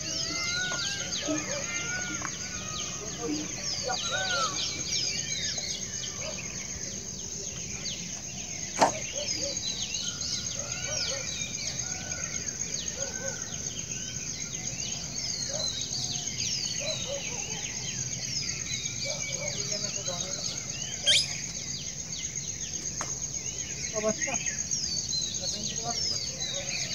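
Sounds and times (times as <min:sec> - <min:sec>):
birds chirping: 0:00.0 - 0:26.9
high insect drone: 0:00.0 - 0:26.9.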